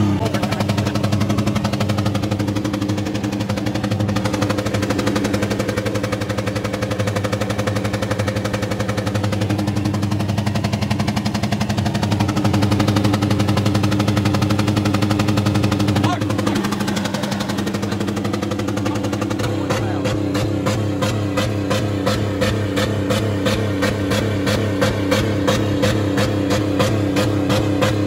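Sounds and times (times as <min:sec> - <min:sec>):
car engine bouncing off rev limiter: 0:00.0 - 0:28.0.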